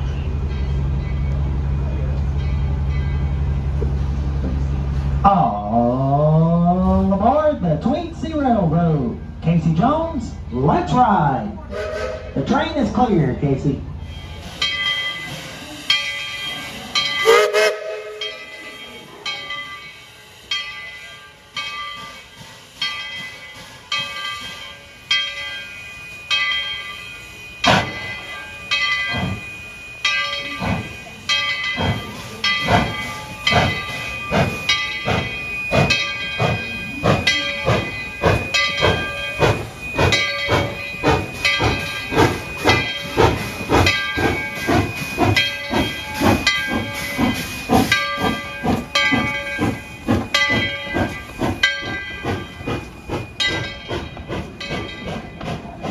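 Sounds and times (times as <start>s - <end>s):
steam locomotive exhaust chuffs: 0.0s - 55.9s.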